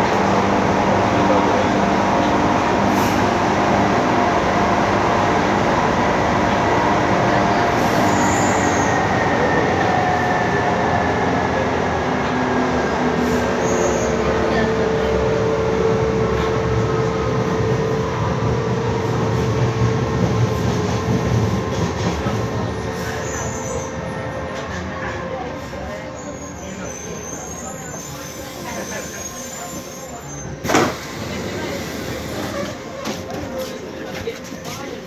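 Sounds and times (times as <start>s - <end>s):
rumble of wheels on rail: 0.0s - 35.0s.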